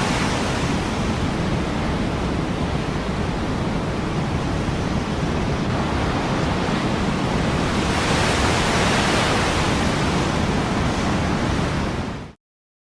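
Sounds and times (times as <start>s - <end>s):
ocean waves breaking: 0.0s - 12.3s.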